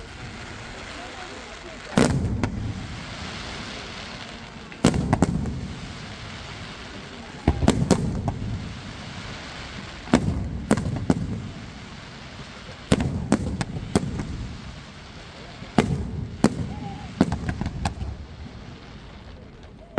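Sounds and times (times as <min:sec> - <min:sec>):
low rolling echo: 0:00.0 - 0:19.9
steady hiss: 0:00.0 - 0:19.9.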